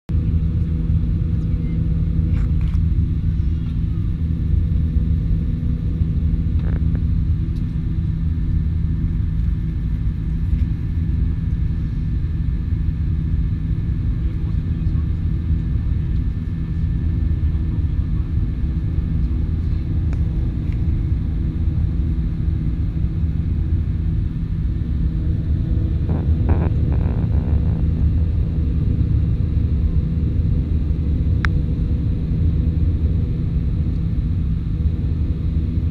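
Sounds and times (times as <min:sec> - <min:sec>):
jet engine drone: 0:00.2 - 0:35.9.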